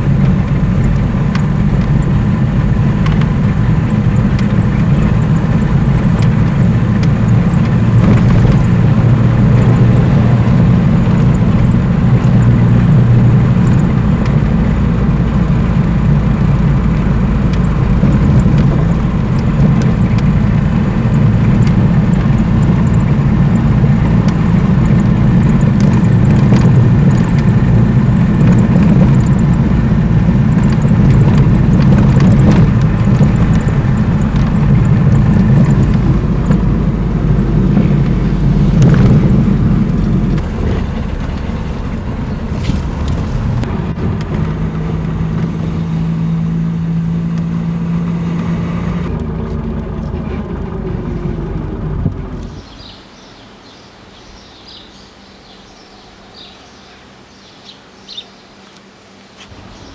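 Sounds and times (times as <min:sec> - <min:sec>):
car engine running: 0:00.0 - 0:53.0, 0:58.8 - 0:59.9
road noise: 0:00.0 - 0:59.9.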